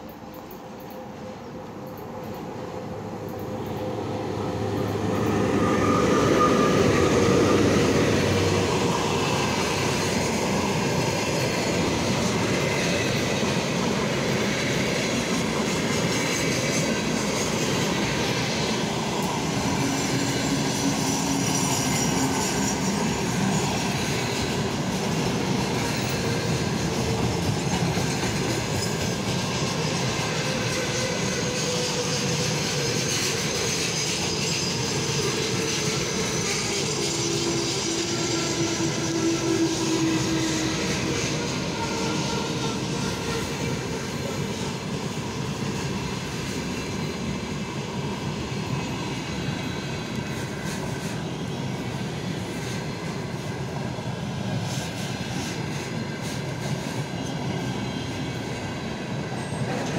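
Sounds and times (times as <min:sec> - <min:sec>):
electric locomotive passing: 0:00.0 - 0:59.9
train wheels rumbling on rails: 0:00.0 - 0:59.9.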